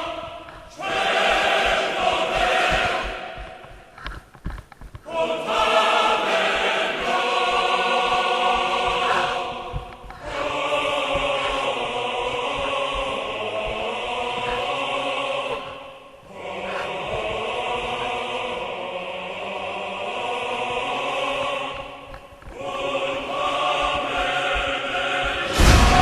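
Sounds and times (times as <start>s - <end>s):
choir-like voices holding chords: 0.0s - 4.2s, 5.0s - 26.0s.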